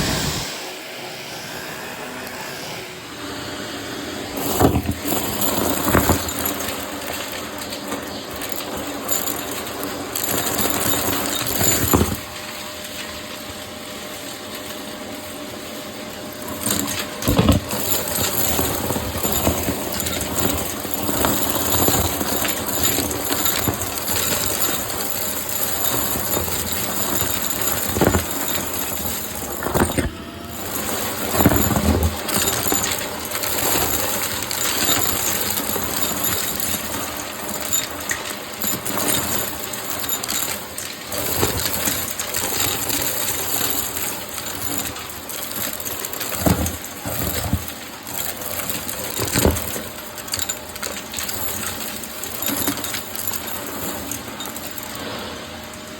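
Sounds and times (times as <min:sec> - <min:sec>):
vacuum cleaner whining: 0:00.0 - 0:55.9
debris rattling through vacuum: 0:04.2 - 0:55.6.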